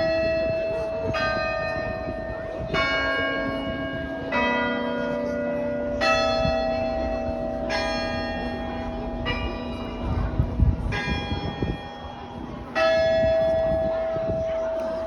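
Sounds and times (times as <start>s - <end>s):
church bells playing hymn melody: 0.0s - 15.0s.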